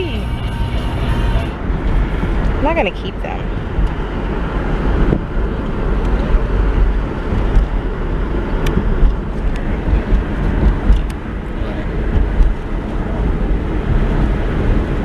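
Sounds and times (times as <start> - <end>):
wind buffeting microphone: 1.6 - 15.0.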